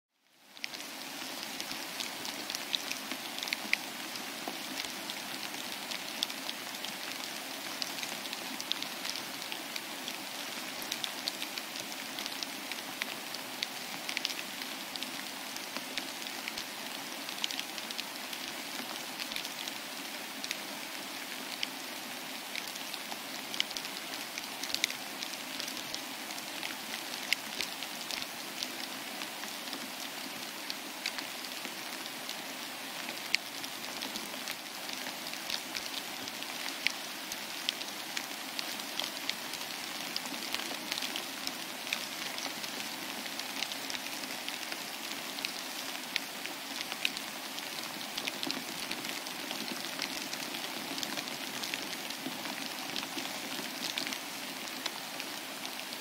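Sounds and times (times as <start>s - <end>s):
rain on metal culvert: 0.2s - 56.0s.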